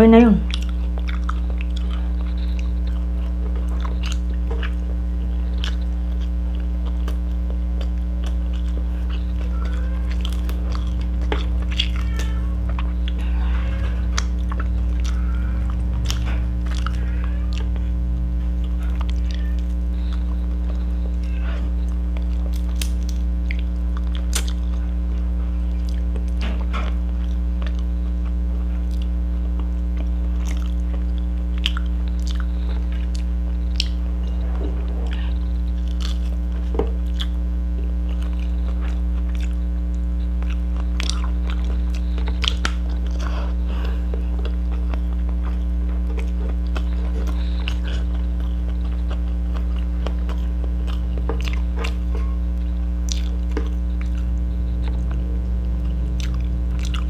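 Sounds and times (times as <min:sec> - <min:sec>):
low electrical hum: 0:00.0 - 0:57.0
person chewing and biting: 0:00.5 - 0:37.4, 0:38.0 - 0:57.0.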